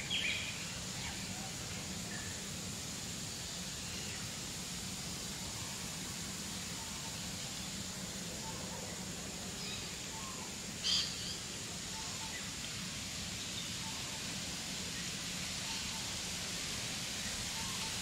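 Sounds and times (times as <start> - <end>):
breeze in the grass: 0.0 - 18.0.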